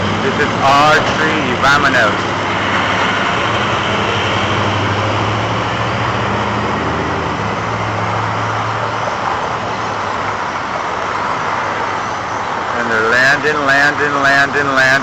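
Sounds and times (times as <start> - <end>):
low engine hum: 0.0 - 15.0
rush of traffic: 0.0 - 15.0.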